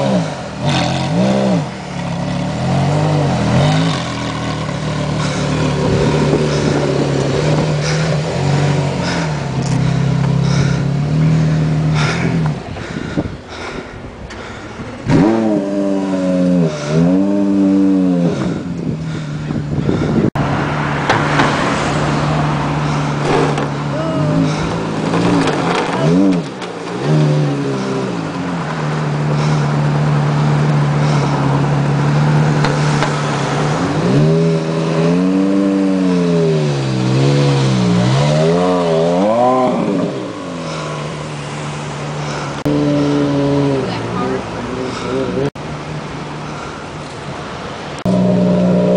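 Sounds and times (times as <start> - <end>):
sports car engine idling and revving: 0.0 - 48.9.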